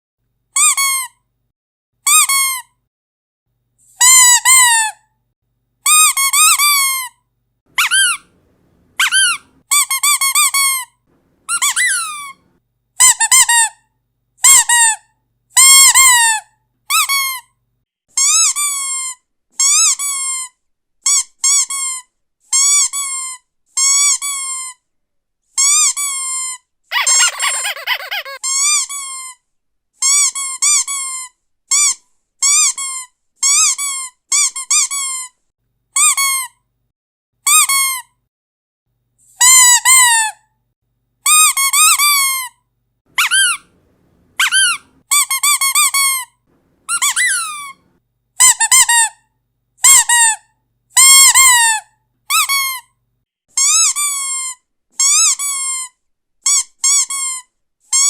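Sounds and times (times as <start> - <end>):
squeaky dog toy squeaking: 0.6 - 1.2, 2.0 - 2.8, 4.0 - 5.1, 5.8 - 24.9, 25.5 - 29.4, 30.0 - 35.4, 36.0 - 36.6, 37.4 - 38.2, 39.3 - 40.5, 41.2 - 58.0.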